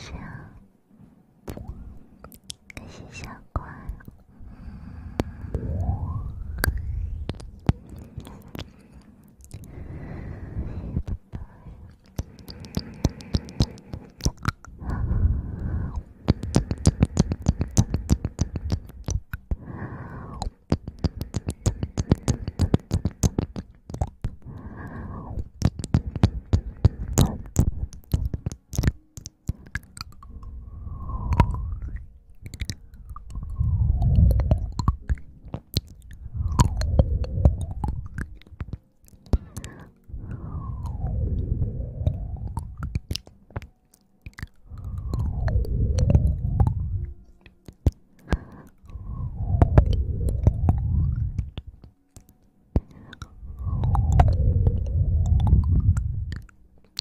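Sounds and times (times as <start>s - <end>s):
small crackles and clicks: 1.5s - 3.3s, 6.5s - 57.0s.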